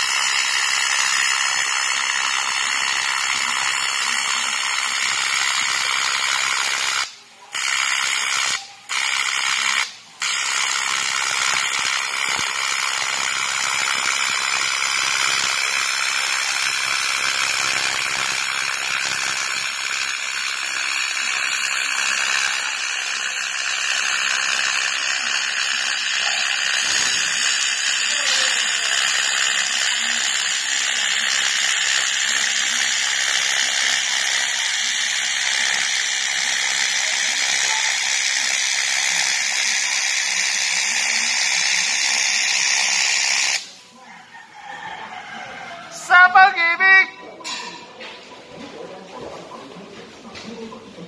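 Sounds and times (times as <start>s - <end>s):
welding arc buzzing hiss: 0.0s - 43.9s.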